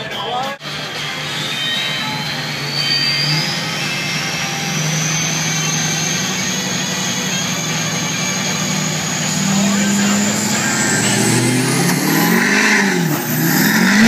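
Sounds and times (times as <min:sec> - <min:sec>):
pickup truck engine running: 0:00.6 - 0:14.0
thin high whine: 0:00.8 - 0:14.0.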